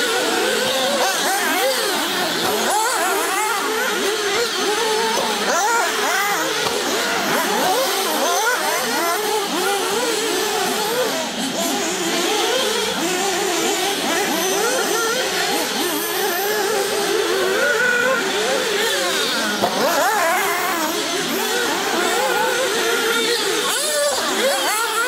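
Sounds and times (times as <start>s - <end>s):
rc car engines screaming: 0.0s - 25.0s.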